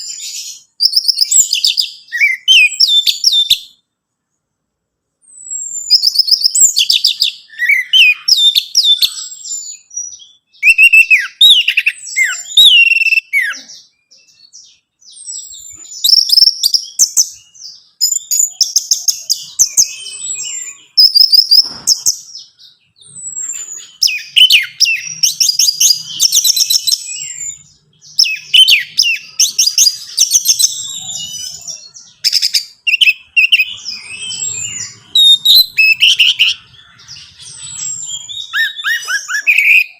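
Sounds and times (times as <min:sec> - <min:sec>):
thrush singing whistled phrases: 0:00.0 - 0:03.8, 0:05.3 - 0:13.7, 0:14.3 - 0:39.9.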